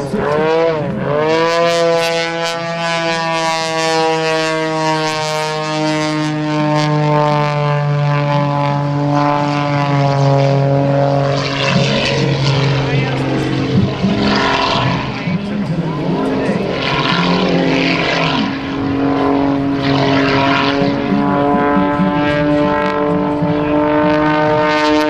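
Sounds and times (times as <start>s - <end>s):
propeller plane engine drone: 0.0s - 25.0s.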